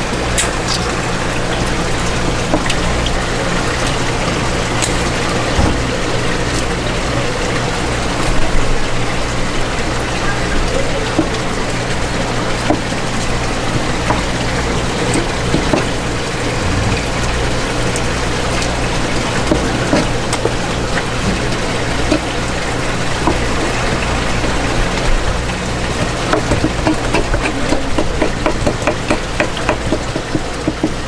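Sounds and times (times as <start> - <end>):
low pump hum: 0.0 - 31.0
running water rushing: 0.0 - 31.0.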